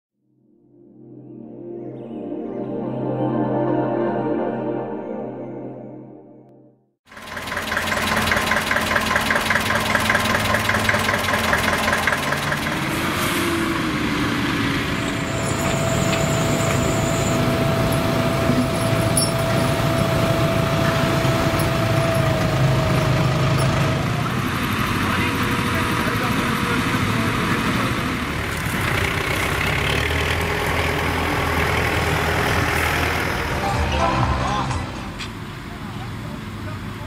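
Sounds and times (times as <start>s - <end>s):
tractor diesel engines running: 7.1s - 37.0s.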